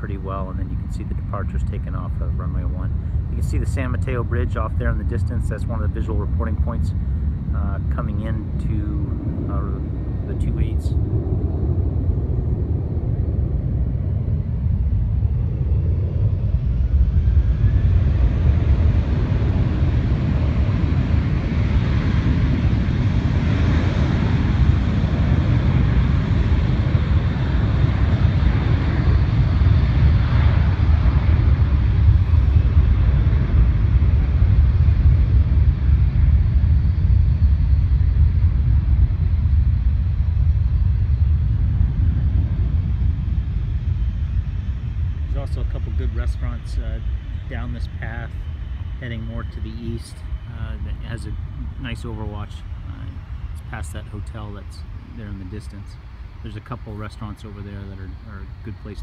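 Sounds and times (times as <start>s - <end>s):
jet engine noise: 0.0s - 59.0s
low rumble: 0.0s - 59.0s.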